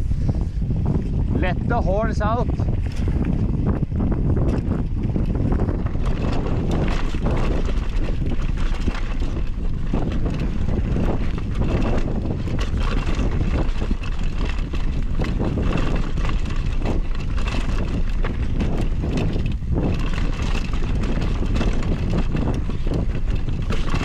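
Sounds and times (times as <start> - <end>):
bike rattling and knocking: 0.0 - 24.0
wind buffeting microphone: 0.0 - 24.0
tyres rolling on gravel: 2.7 - 24.0.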